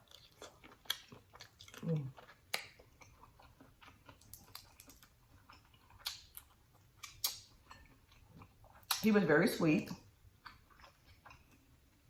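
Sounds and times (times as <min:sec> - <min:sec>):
close chewing and mouth noises: 0:00.0 - 0:12.0.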